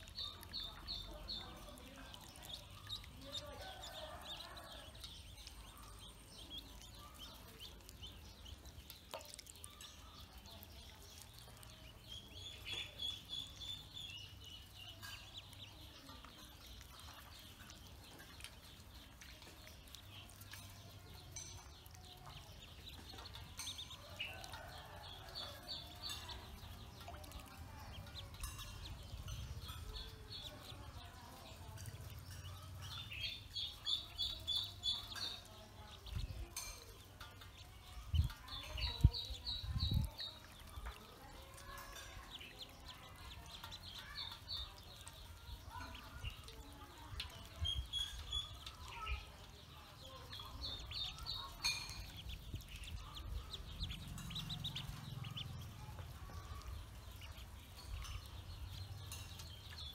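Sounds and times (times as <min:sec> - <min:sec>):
ducklings peeping: 0:00.0 - 0:59.9.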